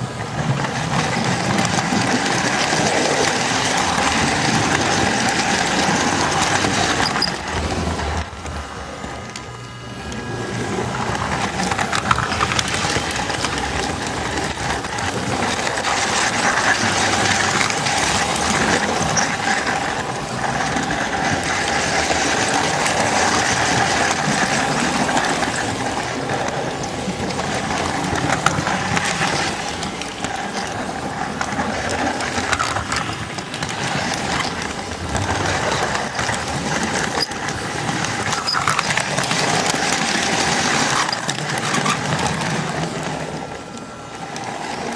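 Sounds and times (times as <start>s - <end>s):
model train wheels clattering: 0.0s - 44.9s
motor whine: 0.0s - 44.9s.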